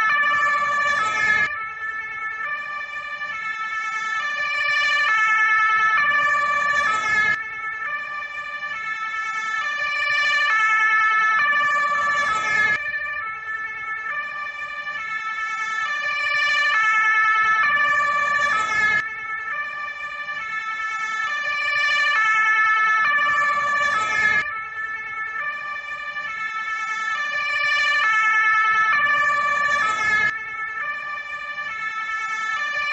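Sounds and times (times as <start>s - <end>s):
two-tone fire engine siren: 0.0s - 32.9s.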